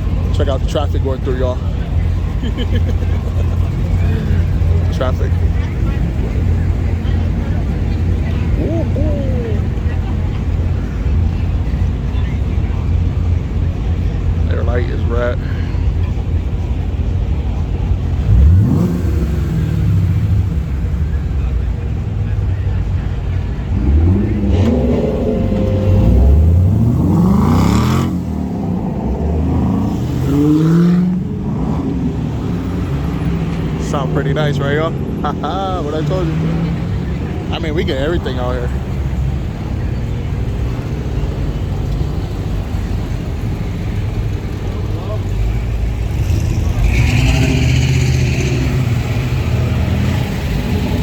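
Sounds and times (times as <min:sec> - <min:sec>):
cars with loud exhausts accelerating: 0:00.0 - 0:51.0.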